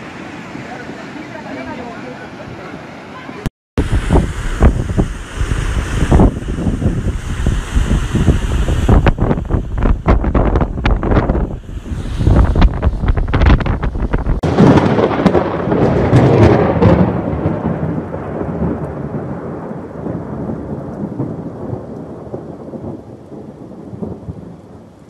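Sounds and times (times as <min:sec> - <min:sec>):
rolling thunderclap: 0:03.8 - 0:25.0
wind buffeting microphone: 0:03.8 - 0:25.0.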